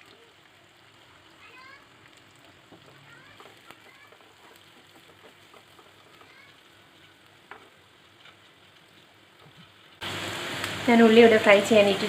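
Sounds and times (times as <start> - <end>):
small crackles: 0.0 - 10.0
onions sizzling in oil: 0.0 - 12.0.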